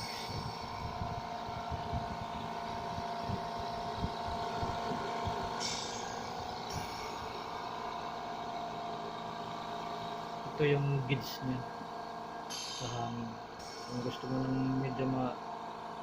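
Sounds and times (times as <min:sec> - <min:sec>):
compressor motor humming: 0:00.0 - 0:16.0.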